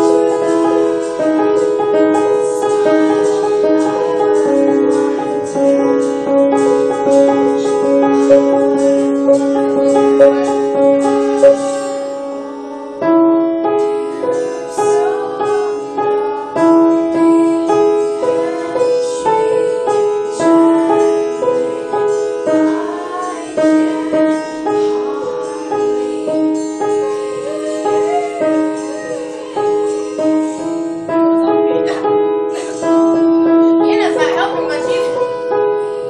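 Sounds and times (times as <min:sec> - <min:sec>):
piano tune: 0:00.0 - 0:36.0.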